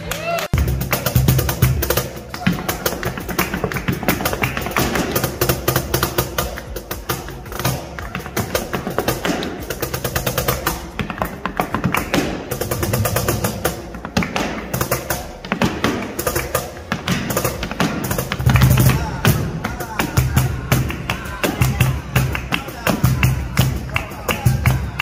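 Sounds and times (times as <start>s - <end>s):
flamenco guitar: 0.0s - 25.0s.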